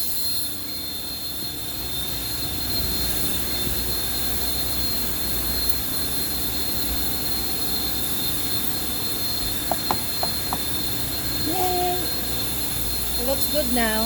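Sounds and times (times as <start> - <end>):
machine hiss with high whine: 0.0 - 14.0.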